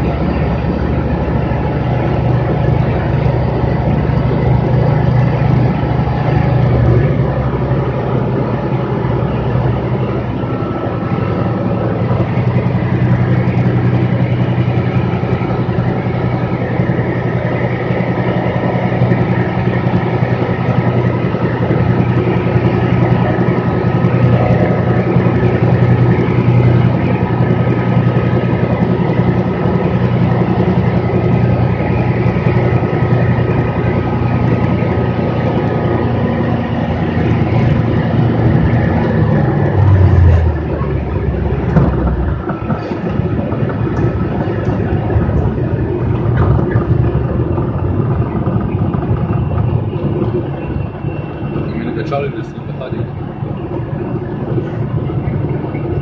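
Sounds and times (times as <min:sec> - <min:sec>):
propeller engine droning: 0:00.0 - 0:56.0
thin steady whine: 0:00.0 - 0:56.0.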